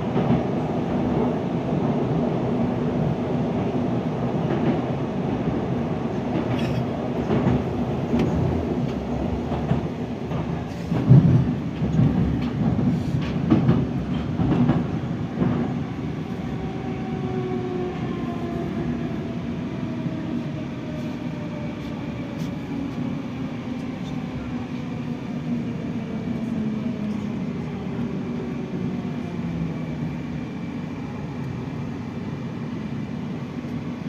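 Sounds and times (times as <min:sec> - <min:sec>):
train rumble in tunnel: 0:00.0 - 0:34.0.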